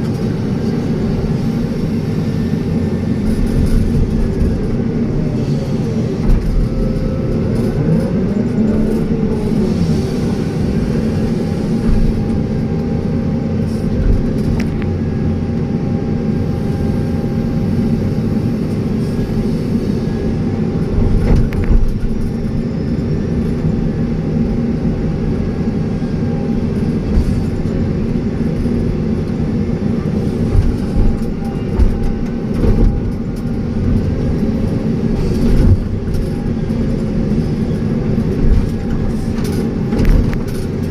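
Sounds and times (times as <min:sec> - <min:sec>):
excavator diesel engine: 0:00.0 - 0:40.9.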